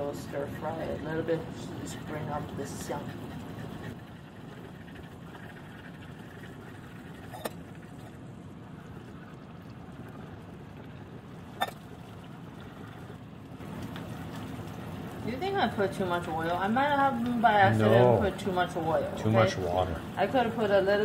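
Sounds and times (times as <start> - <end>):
sauce bubbling in hot oil: 0.0 - 21.0.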